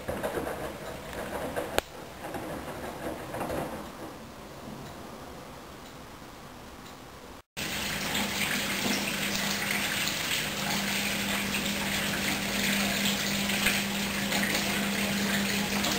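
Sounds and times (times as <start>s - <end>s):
water rushing in washing machine: 0.0s - 4.8s, 7.6s - 15.9s.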